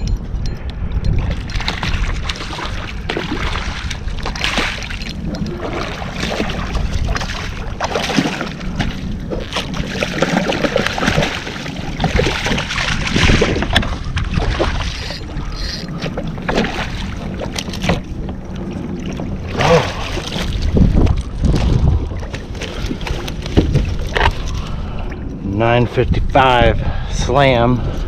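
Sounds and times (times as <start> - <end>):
water splashing against hull: 0.0 - 27.1
wind buffeting microphone: 0.0 - 28.0.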